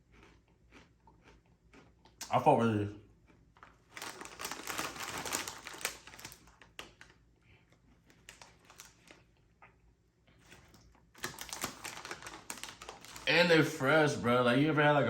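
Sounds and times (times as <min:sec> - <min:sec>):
chewing crunchy chips: 0:00.0 - 0:02.5, 0:03.1 - 0:09.8, 0:10.4 - 0:13.3.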